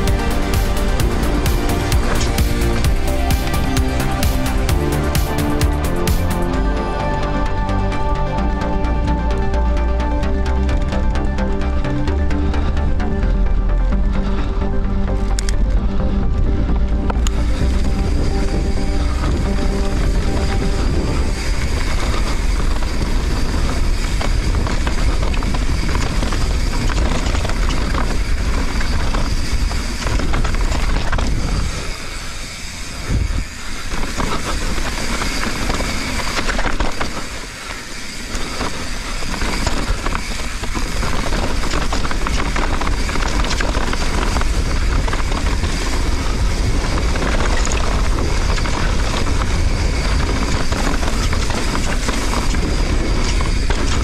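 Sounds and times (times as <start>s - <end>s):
bike tyres rattling over ground: 0.0s - 6.8s, 7.4s - 54.0s
wind buffeting microphone: 0.0s - 54.0s.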